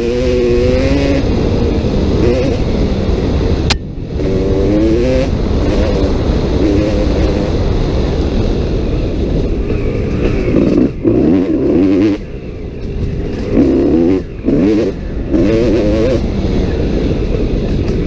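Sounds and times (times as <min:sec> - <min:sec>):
dirt bike engine revving: 0:00.0 - 0:08.6, 0:09.7 - 0:18.0.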